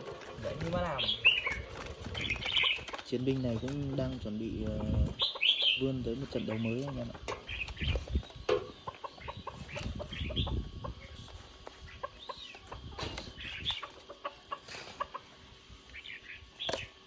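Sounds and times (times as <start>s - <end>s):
birds chirping and clucking: 0.0s - 17.0s.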